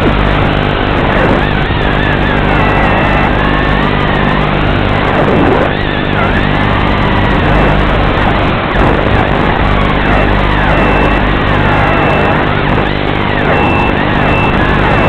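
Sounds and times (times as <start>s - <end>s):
drone motors whining: 0.0s - 15.0s
steady hum: 0.0s - 15.0s.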